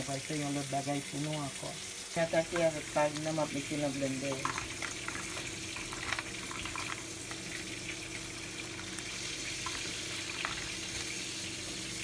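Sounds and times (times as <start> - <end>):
food frying in a pan: 0.0 - 12.0.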